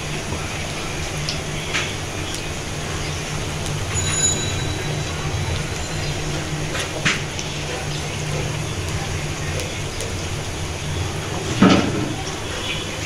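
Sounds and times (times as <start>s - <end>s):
fritters sizzling in hot oil: 0.0s - 13.0s.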